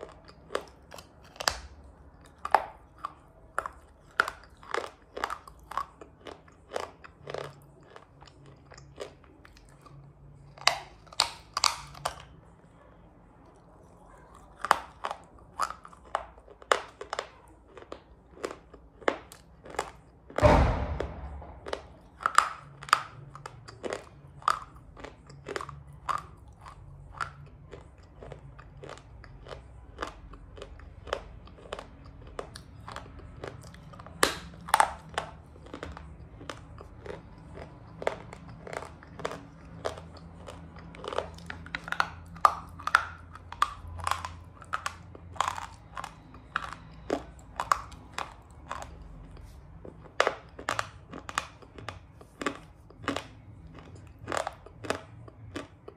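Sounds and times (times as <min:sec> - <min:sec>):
crunchy chewing: 0:00.0 - 0:20.4, 0:21.0 - 0:55.9.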